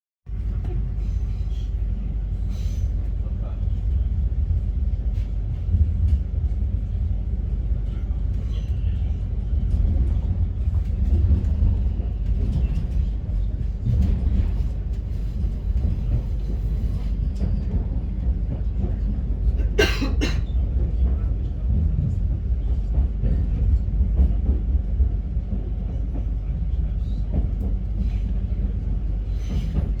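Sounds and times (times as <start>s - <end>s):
train rumbling on rails: 0.3s - 30.0s.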